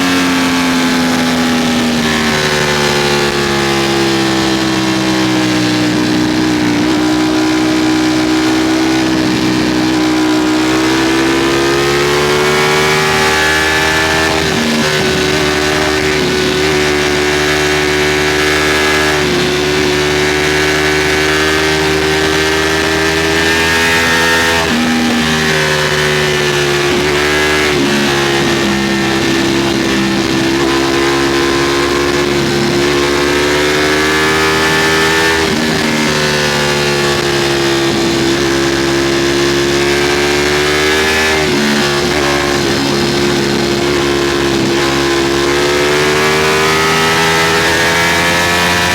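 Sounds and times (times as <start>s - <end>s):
motorcycle engine at high revs: 0.0s - 48.9s.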